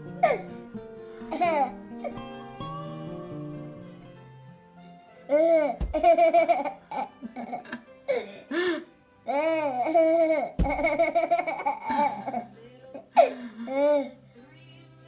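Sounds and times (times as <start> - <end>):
bright melodic music: 0.0 - 12.4.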